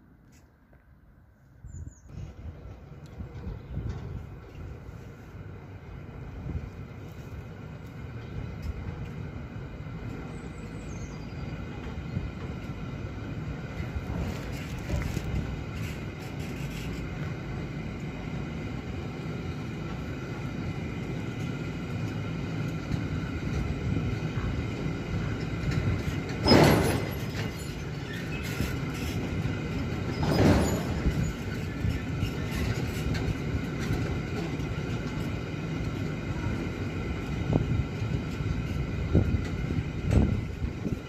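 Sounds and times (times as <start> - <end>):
freight train wheels rumbling on rails: 1.6 - 41.0.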